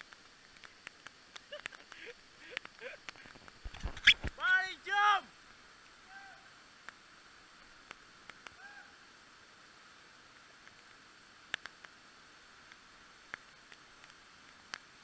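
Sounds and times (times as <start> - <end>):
muffled waterfall rush: 0.0 - 15.0.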